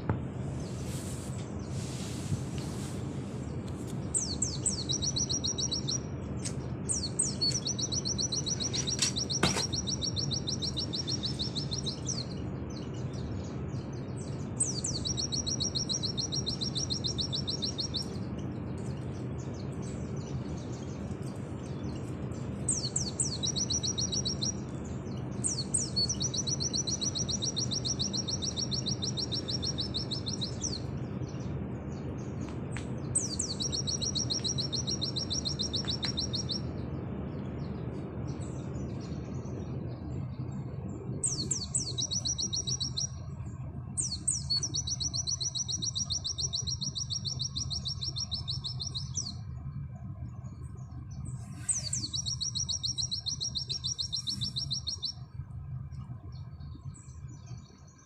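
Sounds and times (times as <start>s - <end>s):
steady low hum: 0.0s - 58.0s
bird singing high trills: 4.1s - 32.4s, 33.0s - 36.8s, 41.2s - 58.0s.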